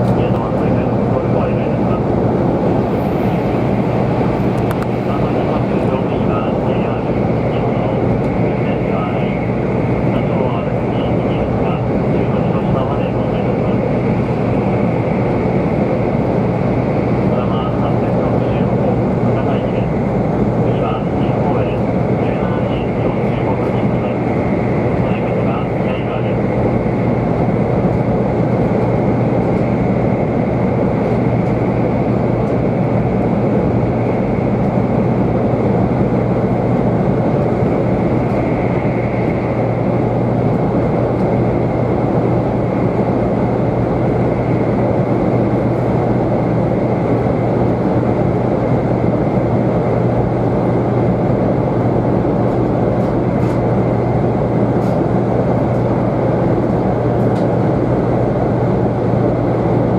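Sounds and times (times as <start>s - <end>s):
train cabin running rumble: 0.0s - 59.9s.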